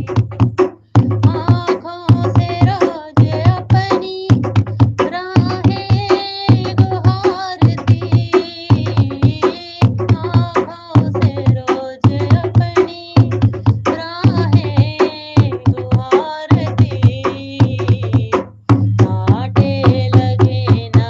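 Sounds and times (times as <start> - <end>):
tabla and drum beat: 0.0 - 21.0
person singing devotional song: 1.0 - 21.0.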